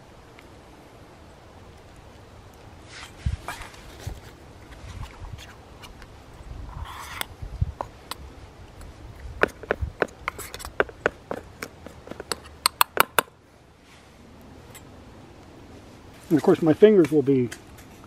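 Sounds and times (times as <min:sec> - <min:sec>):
rustle: 0:00.0 - 0:18.0.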